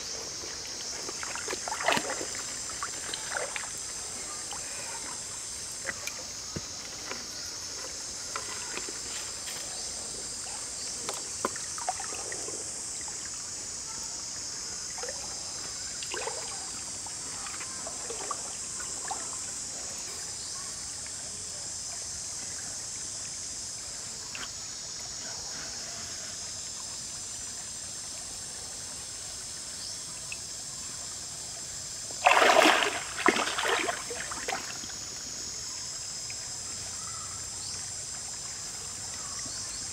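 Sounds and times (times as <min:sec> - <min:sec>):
high-pitched forest hiss: 0:00.0 - 0:39.9.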